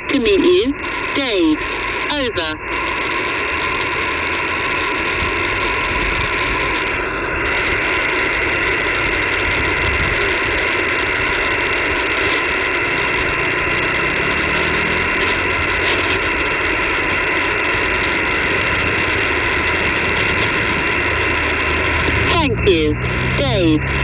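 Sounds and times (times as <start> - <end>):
faint steady tones: 0.0 - 24.0
shortwave radio hiss: 0.0 - 24.0.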